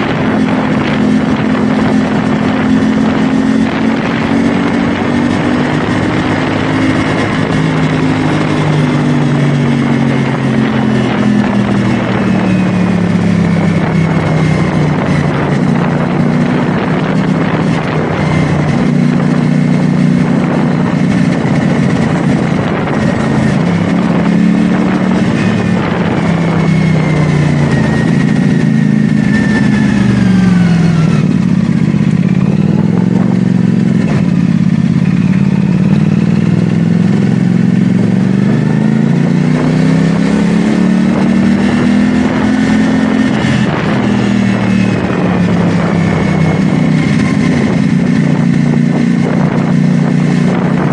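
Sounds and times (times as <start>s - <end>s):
motorcycle engine running: 0.0s - 50.9s
wind rush: 0.0s - 50.9s.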